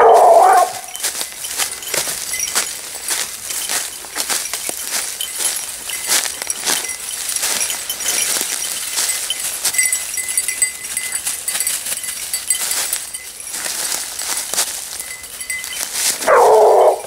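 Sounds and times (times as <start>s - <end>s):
collar bells jingling: 0.0s - 17.0s
thin high steady tone: 0.7s - 17.0s.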